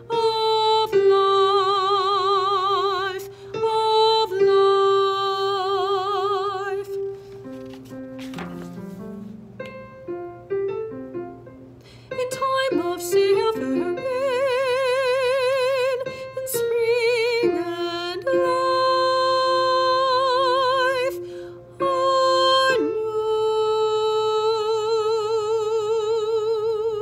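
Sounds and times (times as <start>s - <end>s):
alto voice singing with vibrato: 0.0s - 7.1s, 12.1s - 27.0s.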